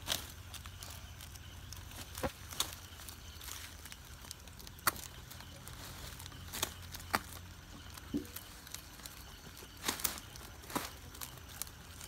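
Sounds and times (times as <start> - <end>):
goats chewing leaves: 0.0 - 12.0
low steady hum: 0.0 - 12.0.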